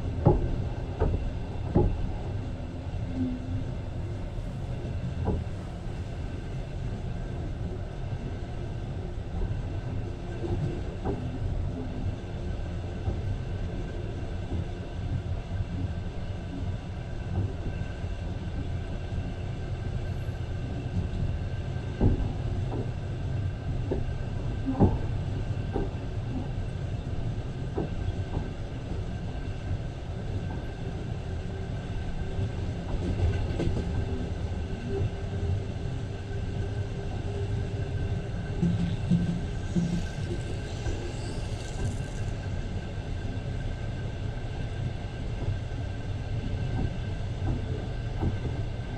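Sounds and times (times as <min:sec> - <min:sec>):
train carriage rumble: 0:00.0 - 0:48.9.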